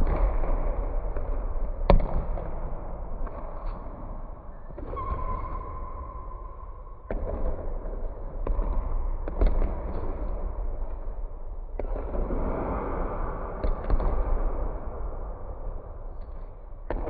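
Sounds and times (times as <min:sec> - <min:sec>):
basketballs thudding in a gym: 0:00.0 - 0:15.6.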